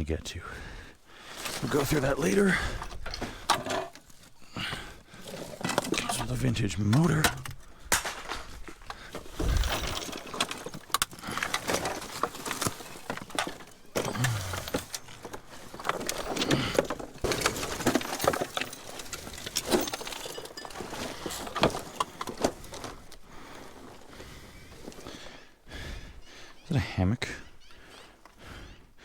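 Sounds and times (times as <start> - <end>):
rummaging through junk: 0.9 - 25.4.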